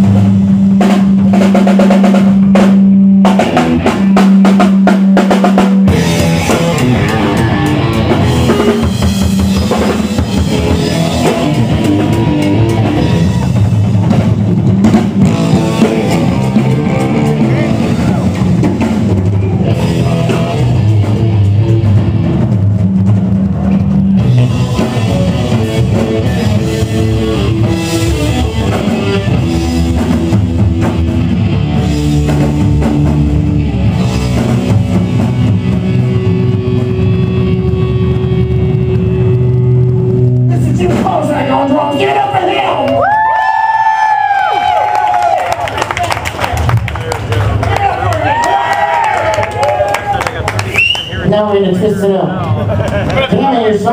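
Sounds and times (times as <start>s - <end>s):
drum kit pounding: 0.0s - 51.5s
electric guitar: 0.0s - 53.9s
live rock band: 0.0s - 53.9s.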